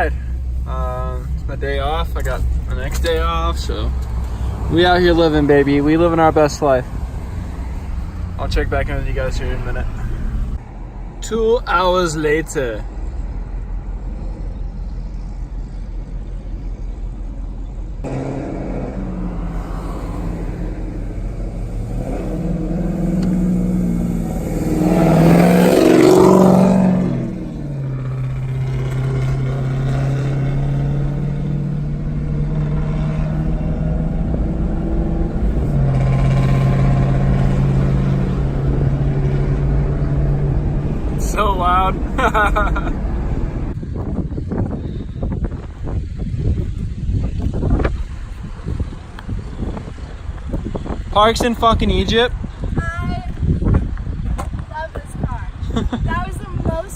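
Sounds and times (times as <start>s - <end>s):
car engine accelerating: 0.0s - 11.1s, 11.7s - 56.9s.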